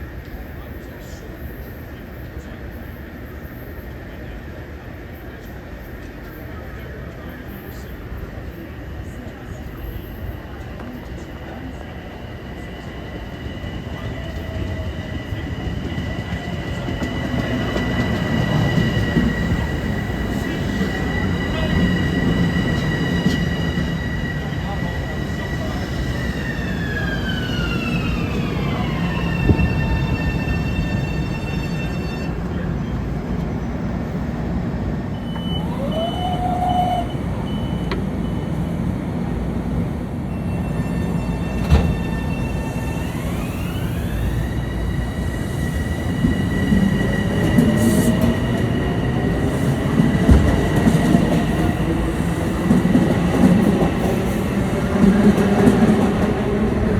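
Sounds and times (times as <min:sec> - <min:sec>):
train rumbling past: 0:07.7 - 0:56.9.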